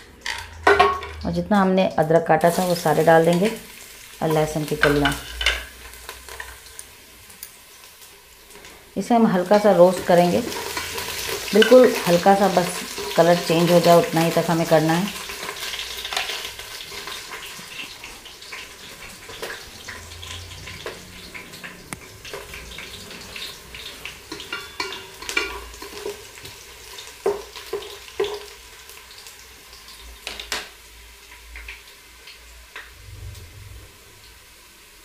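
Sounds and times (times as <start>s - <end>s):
spices sizzling in hot ghee: 0.0s - 32.9s.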